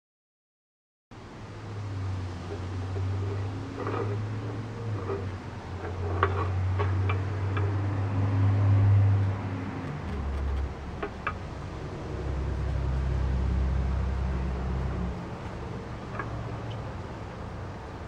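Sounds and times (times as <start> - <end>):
low mechanical hum: 1.2 - 18.0.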